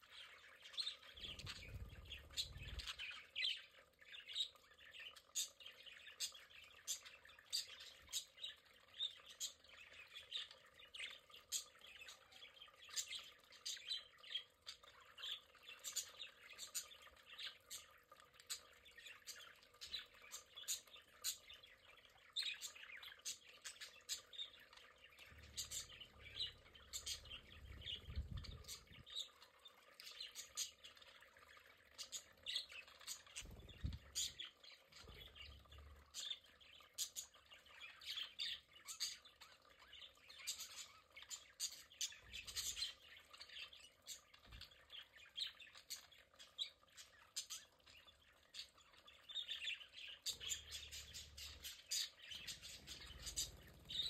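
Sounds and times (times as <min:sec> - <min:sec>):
budgerigars chirping and squawking: 0:00.0 - 0:31.2, 0:32.0 - 0:54.0.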